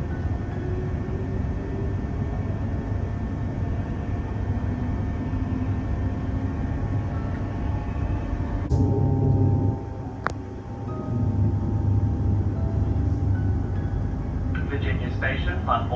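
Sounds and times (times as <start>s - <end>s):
faint steady tones: 0.0s - 15.9s
train interior rumble: 0.0s - 15.9s.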